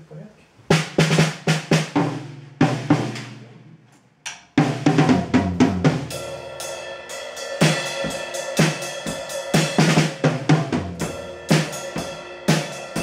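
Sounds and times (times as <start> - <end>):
drum kit: 0.7 - 13.0.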